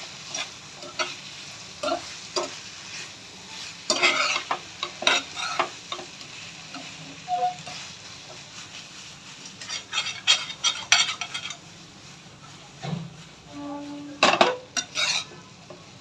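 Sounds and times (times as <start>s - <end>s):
metal spatula scraping a pan: 0.2s - 11.7s, 13.2s - 15.5s.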